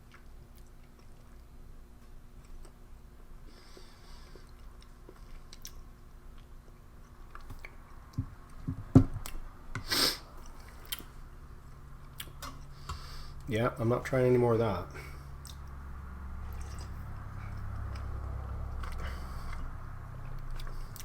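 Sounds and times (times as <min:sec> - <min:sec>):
person chewing food: 0:00.0 - 0:01.5, 0:02.3 - 0:13.2, 0:15.1 - 0:21.0.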